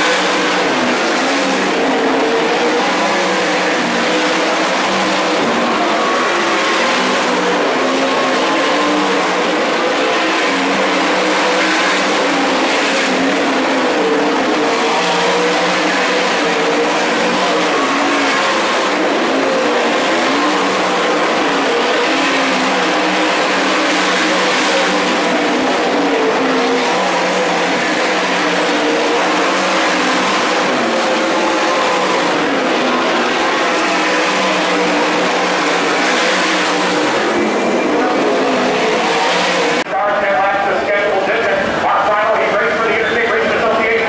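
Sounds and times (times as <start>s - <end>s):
race car engines running hard: 0.0s - 44.0s.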